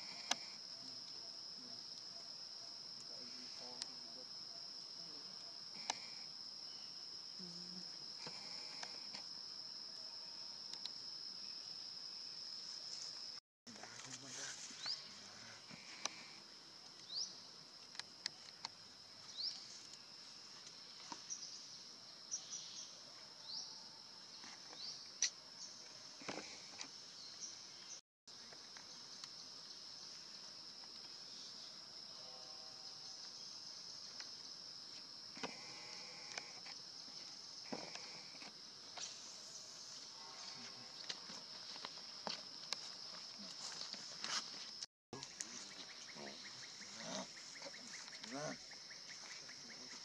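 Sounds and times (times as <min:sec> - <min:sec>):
high insect drone: 0:00.0 - 0:50.0.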